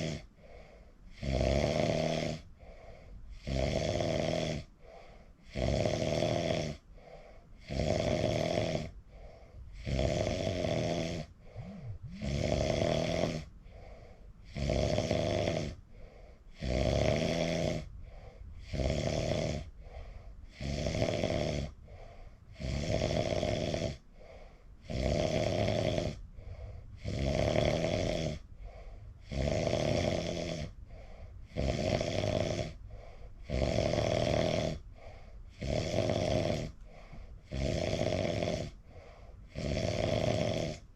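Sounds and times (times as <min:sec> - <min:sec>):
person snoring: 0:00.0 - 0:02.5, 0:03.3 - 0:40.9.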